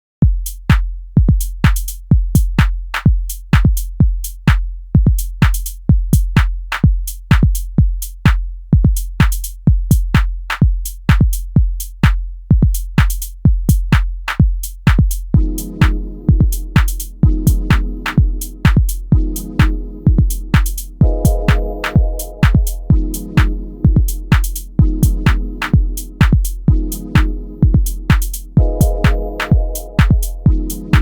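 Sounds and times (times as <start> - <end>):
deep kick drum: 0.2 - 31.0
percussion clicks and hi-hats: 0.4 - 31.0.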